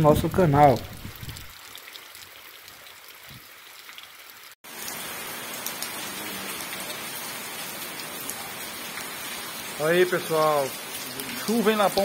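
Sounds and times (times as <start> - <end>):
rain falling on wet ground: 0.0 - 12.0.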